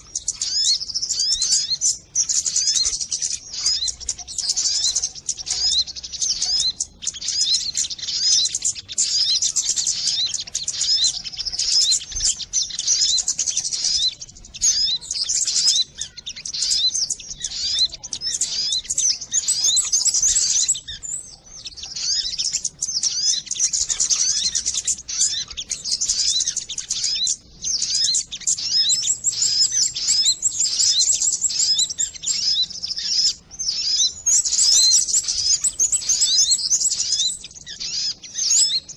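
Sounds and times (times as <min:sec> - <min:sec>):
recorded bird chirping: 0:00.0 - 0:38.9.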